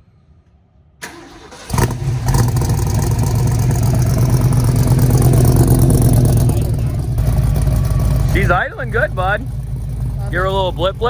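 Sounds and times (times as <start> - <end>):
engine cranking and idling: 1.0 - 11.0.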